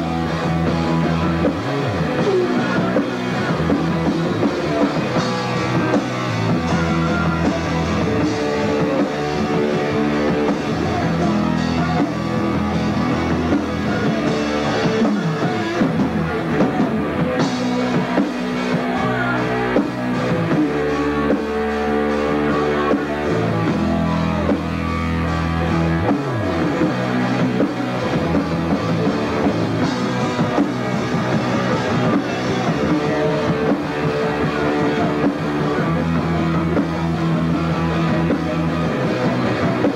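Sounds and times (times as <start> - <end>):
bass guitar: 0.0 - 39.9
distorted electric guitar chords: 0.0 - 39.9
drum kit: 0.0 - 39.9.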